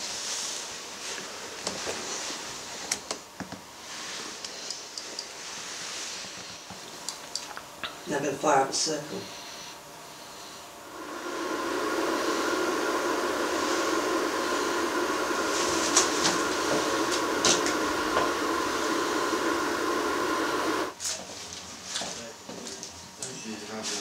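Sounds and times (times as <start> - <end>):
electrical machine hum and hiss: 0.0 - 24.0.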